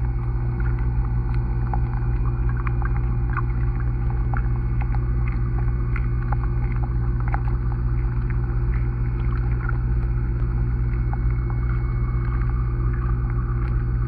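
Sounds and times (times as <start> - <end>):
low underwater hum: 0.0 - 14.0
small underwater clicks: 0.0 - 14.0.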